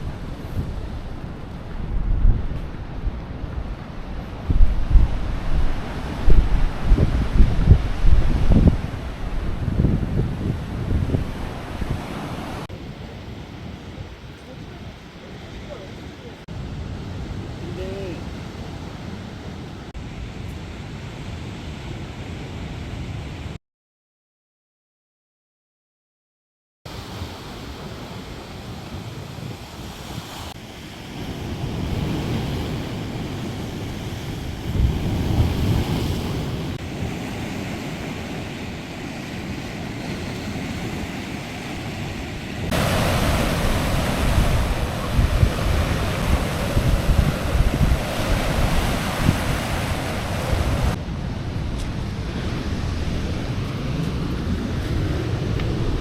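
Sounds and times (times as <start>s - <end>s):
surf breaking on shore: 0.0s - 21.1s, 26.9s - 56.0s
wind buffeting microphone: 0.0s - 23.6s, 27.8s - 56.0s.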